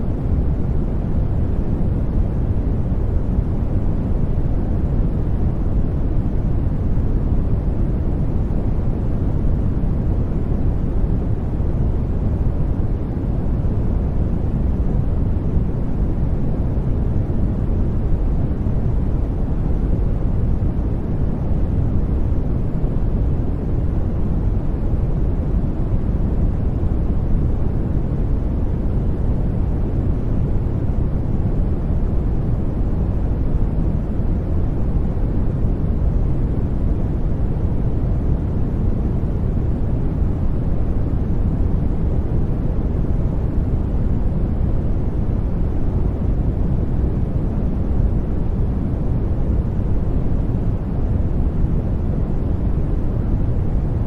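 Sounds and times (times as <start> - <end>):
deep rushing white noise: 0.0 - 54.0.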